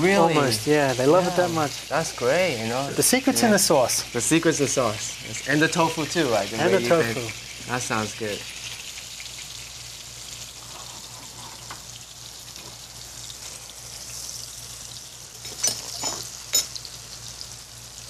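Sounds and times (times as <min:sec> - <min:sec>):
tofu sizzling in oil: 0:00.0 - 0:18.0.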